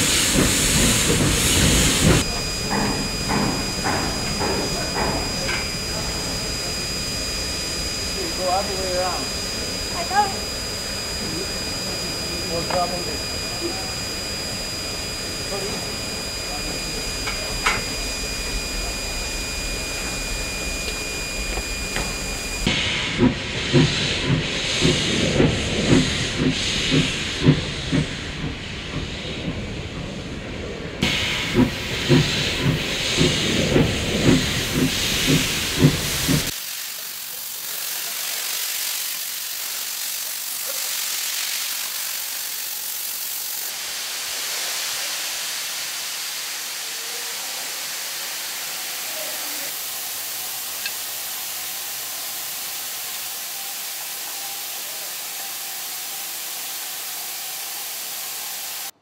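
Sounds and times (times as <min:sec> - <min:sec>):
escaping steam hissing: 0:00.0 - 0:30.2, 0:31.0 - 0:59.0
steam locomotive exhaust chuffing: 0:00.0 - 0:59.0.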